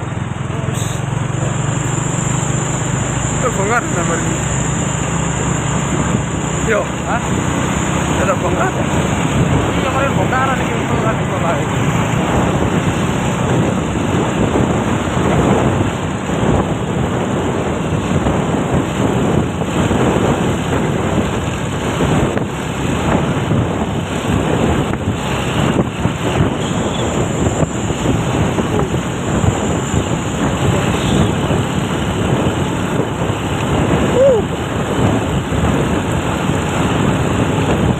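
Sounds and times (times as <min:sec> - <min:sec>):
road traffic noise: 0:00.0 - 0:37.9
wind buffeting microphone: 0:00.0 - 0:37.9.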